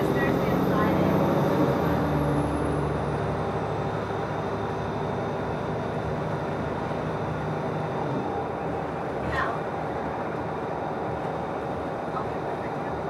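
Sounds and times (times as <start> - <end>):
bus engine hum: 0.0 - 13.0
road noise: 0.0 - 13.0.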